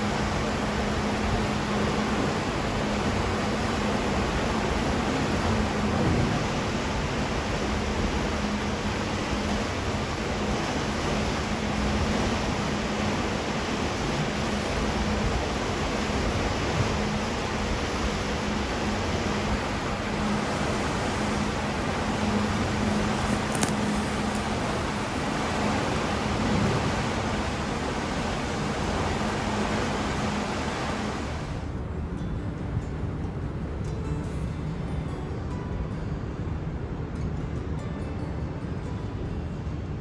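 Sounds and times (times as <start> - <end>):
ship rushing noise: 0.0 - 35.0
constant low hum: 0.0 - 35.7.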